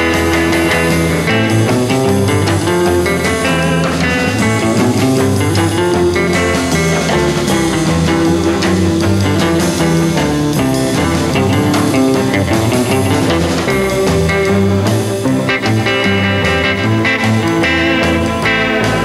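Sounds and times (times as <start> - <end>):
guitar-led background music: 0.0 - 19.0.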